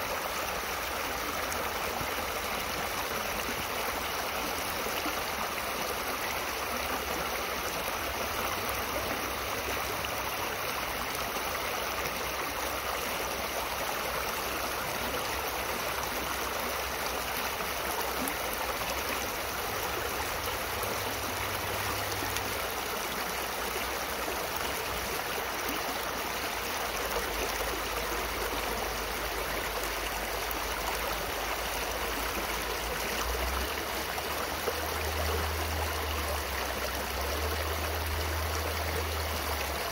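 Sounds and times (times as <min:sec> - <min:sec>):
stream water rushing over stones: 0:00.0 - 0:39.9.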